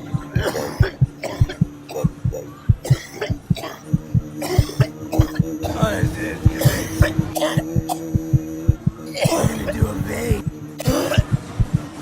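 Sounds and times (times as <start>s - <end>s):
background music with low note: 0.0s - 12.0s
person coughing: 0.3s - 8.2s, 9.0s - 11.4s.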